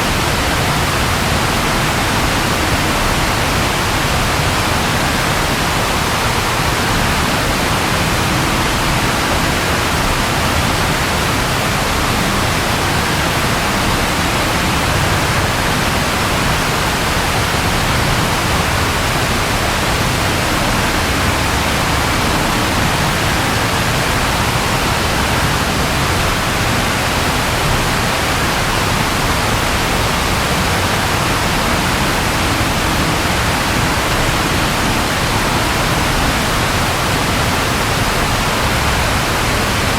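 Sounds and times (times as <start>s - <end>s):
rainfall: 0.0s - 39.9s.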